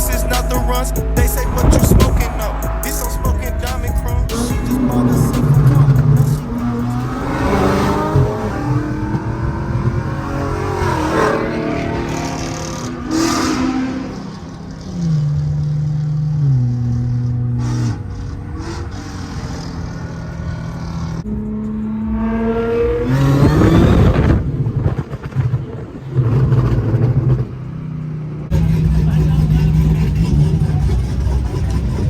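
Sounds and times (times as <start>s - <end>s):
car engines revving and accelerating: 0.0s - 32.0s.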